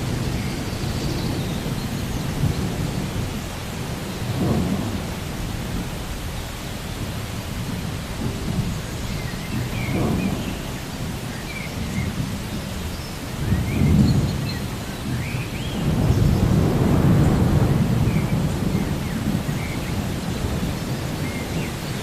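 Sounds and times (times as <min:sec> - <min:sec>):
low rolling thunder: 0:00.0 - 0:22.0
steady rain: 0:00.0 - 0:22.0.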